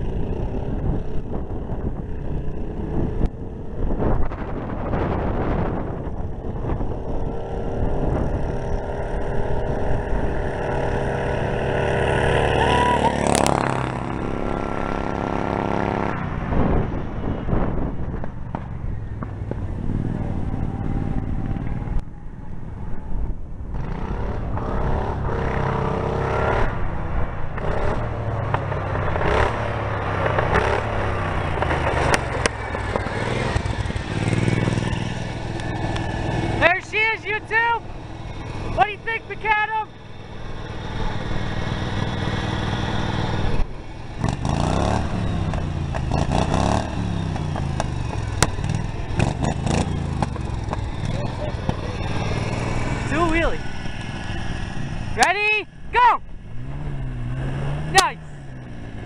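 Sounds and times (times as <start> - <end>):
small engines racing: 0.0 - 23.1, 23.7 - 59.0.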